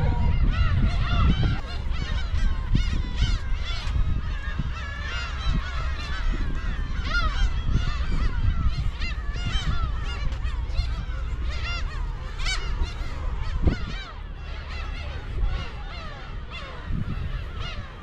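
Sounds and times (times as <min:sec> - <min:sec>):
gulls calling: 0:00.0 - 0:18.0
low rumble: 0:00.0 - 0:18.0.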